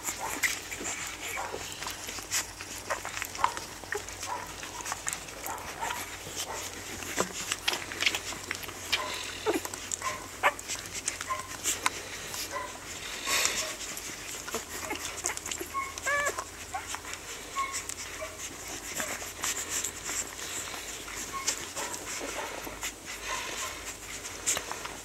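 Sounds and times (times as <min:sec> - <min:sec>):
puppies squeaking: 0:00.0 - 0:25.0
puppies suckling: 0:00.0 - 0:25.0.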